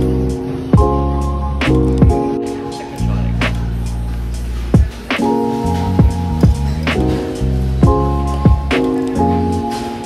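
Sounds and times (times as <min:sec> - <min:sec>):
mellow pop music: 0:00.0 - 0:10.0.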